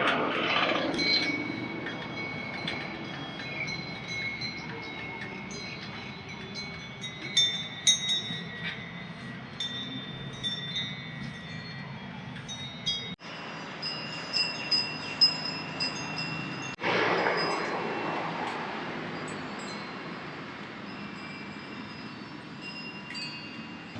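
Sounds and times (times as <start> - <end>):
metal chimes ringing: 0.4 - 23.9.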